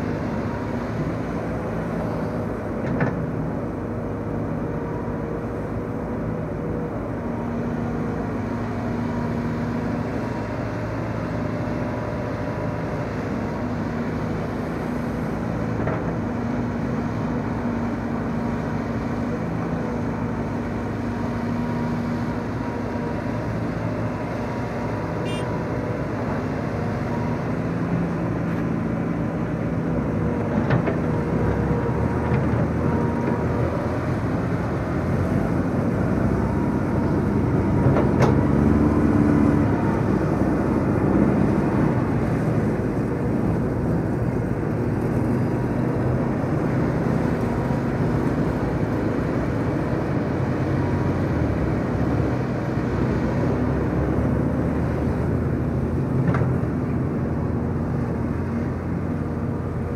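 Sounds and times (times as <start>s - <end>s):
deeper engine of dump carrier: 0.0s - 59.9s
excavator diesel engine running: 0.0s - 59.9s.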